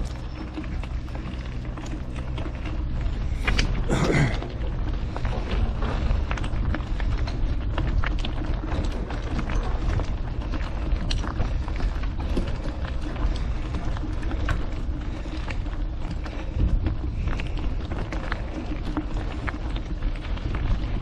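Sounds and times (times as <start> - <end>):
bike rattling: 0.0 - 21.0
steady low rumble: 0.0 - 21.0
tyres crunching over gravel: 0.0 - 21.0.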